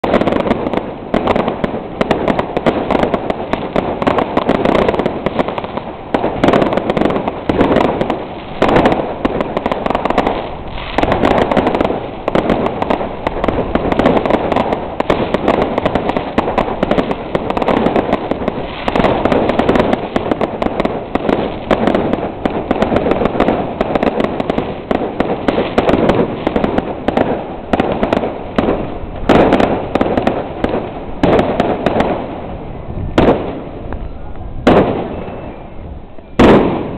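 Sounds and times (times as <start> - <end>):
fireworks bursting: 0.0 - 36.9.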